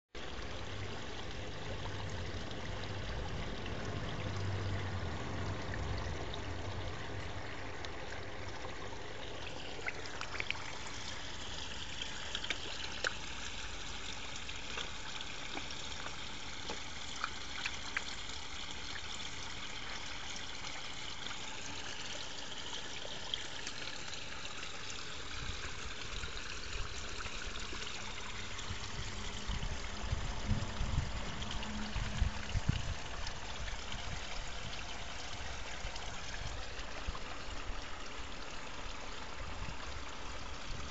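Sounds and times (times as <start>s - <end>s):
water trickling into pond: 0.0s - 40.9s.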